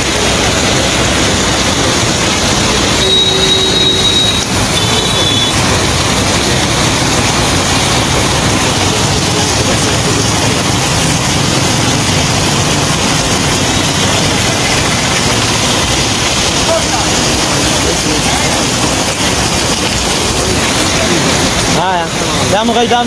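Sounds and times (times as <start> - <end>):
floodwater rushing: 0.0 - 23.0
heavy rain: 0.0 - 23.0.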